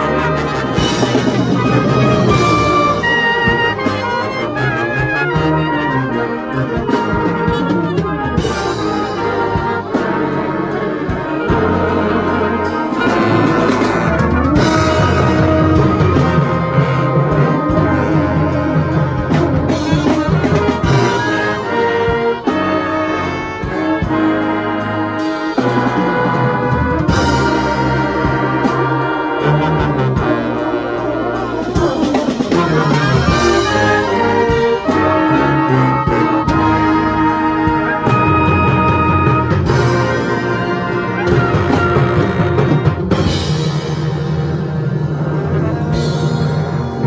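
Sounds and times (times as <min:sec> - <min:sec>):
brass band playing: 0:00.0 - 0:47.0.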